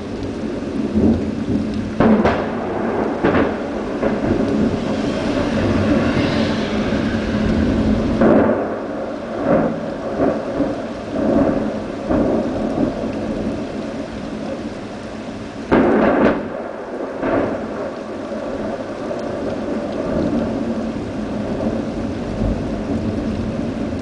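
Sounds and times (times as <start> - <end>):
rain hiss: 0.0 - 24.0
thunder rumbling: 0.0 - 24.0
sharp thunderclap: 0.5 - 13.6, 15.7 - 24.0.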